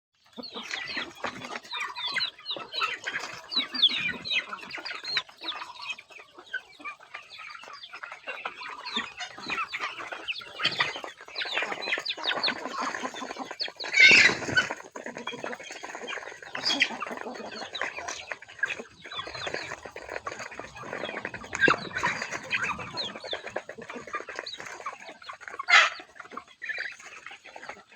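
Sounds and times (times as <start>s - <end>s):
chickens clucking: 0.2s - 27.9s
harsh chicken squawk: 0.4s - 27.8s.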